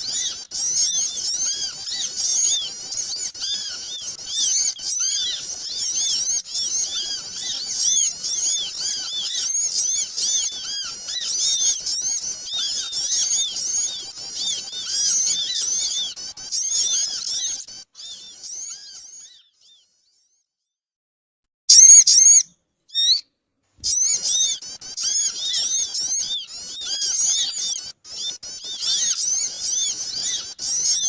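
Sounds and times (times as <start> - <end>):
small birds chirping: 0.0 - 20.5, 21.7 - 23.2, 23.8 - 31.0.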